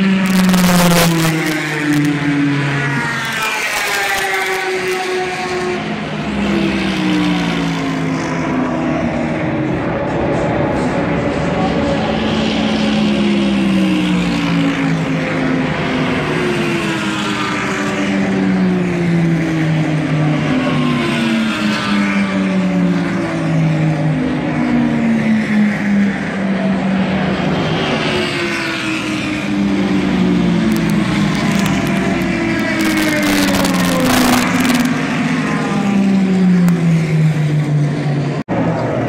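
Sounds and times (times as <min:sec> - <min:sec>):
engine and tyre noise: 0:00.0 - 0:39.0
race cars passing by: 0:00.0 - 0:39.0.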